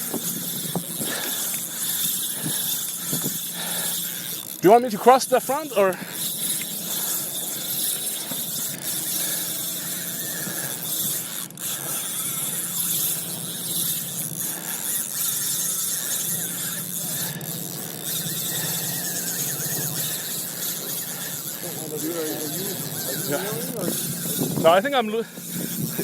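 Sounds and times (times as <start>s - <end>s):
fishing reel drag screaming: 0.0s - 26.0s.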